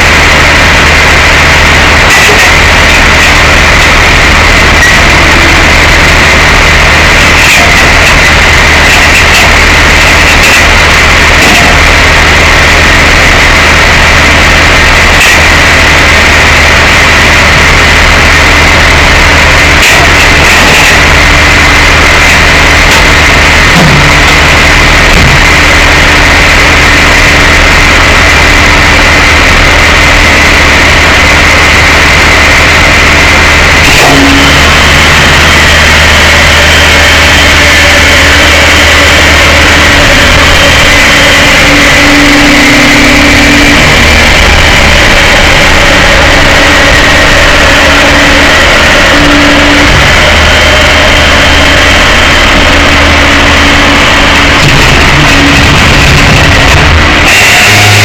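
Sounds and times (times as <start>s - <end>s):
truck engine droning: 0.0s - 58.0s.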